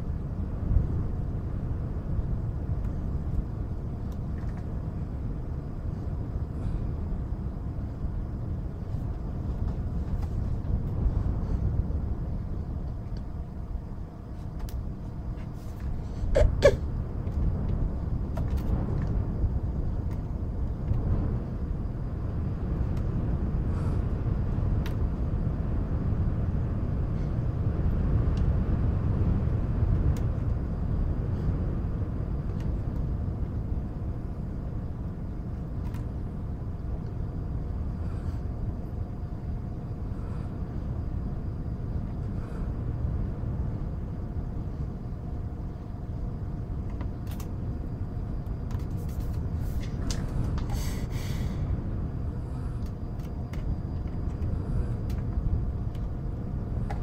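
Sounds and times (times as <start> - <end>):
low rumbling wind: 0.0 - 57.0.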